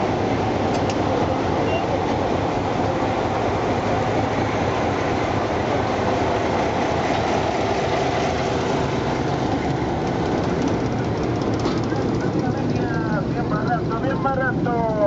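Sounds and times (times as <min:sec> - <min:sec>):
diesel locomotive passing: 0:00.0 - 0:15.0.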